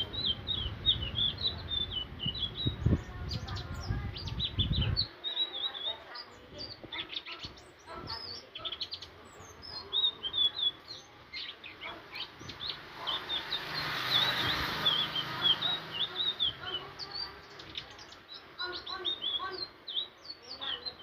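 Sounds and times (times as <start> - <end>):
bird twittering and chirping: 0.0 - 21.0.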